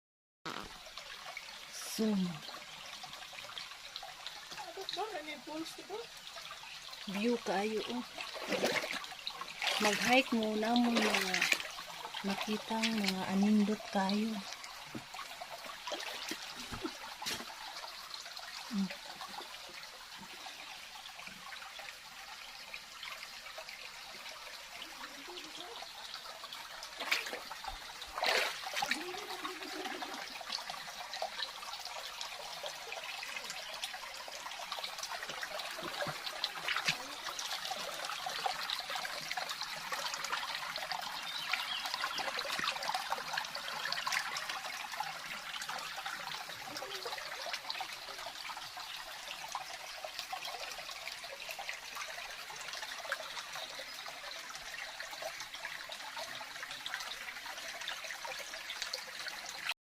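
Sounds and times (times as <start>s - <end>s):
water flowing and trickling: 0.5s - 59.8s.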